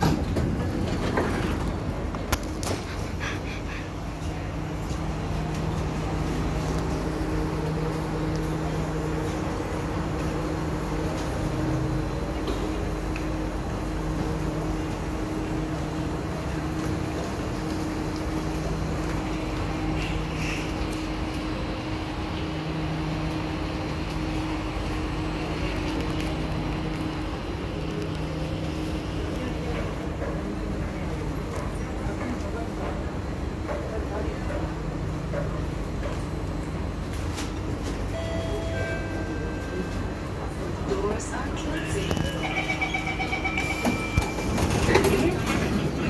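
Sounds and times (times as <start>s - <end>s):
train humming with held tones: 0.0s - 46.0s.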